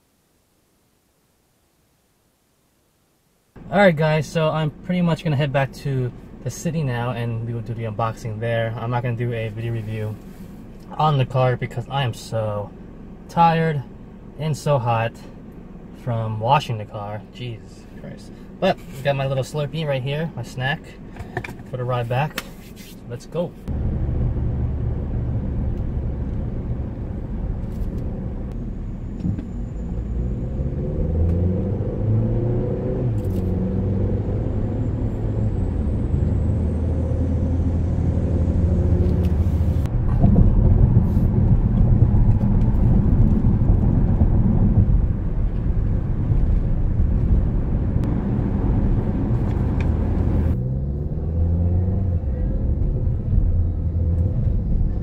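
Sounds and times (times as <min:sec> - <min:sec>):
car engine and tyre rumble: 0:03.5 - 0:55.0.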